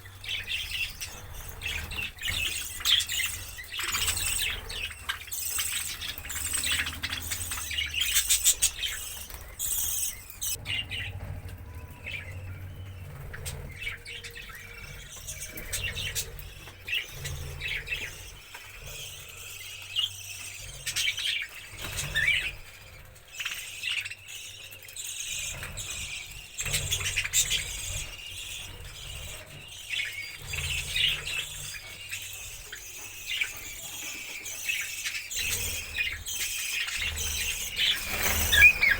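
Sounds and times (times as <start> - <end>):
parrots chirping and squealing: 0.0 - 38.9.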